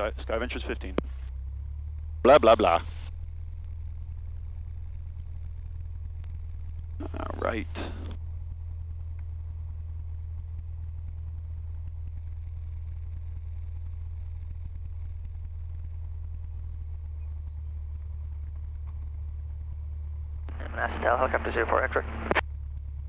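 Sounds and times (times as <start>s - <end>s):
airplane piston engine droning: 0.0s - 23.0s.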